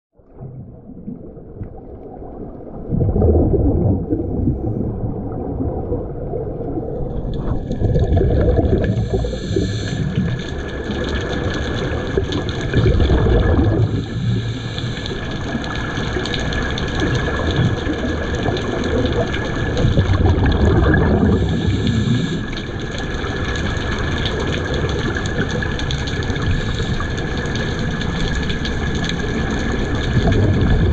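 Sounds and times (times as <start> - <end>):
underwater air bubbles rushing: 0.2 - 30.9.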